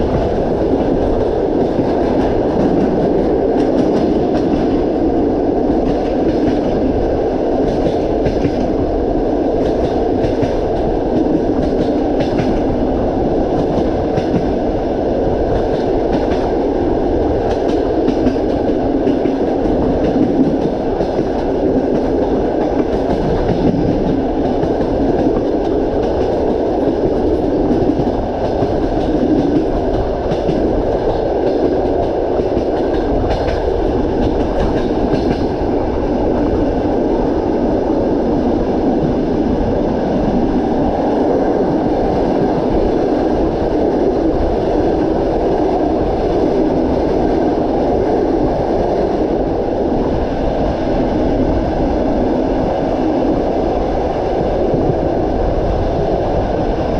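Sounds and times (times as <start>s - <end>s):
train carriages rumbling: 0.0s - 56.9s
train wheels clickety-clack: 0.0s - 56.9s.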